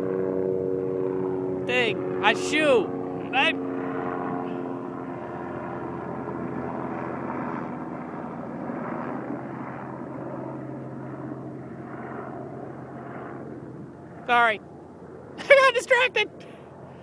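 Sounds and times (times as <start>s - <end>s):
aircraft droning overhead: 0.0s - 17.0s.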